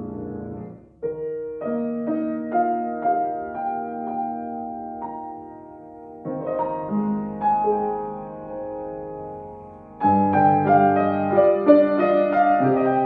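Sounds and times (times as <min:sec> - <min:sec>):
grand piano playing: 0:00.0 - 0:13.0.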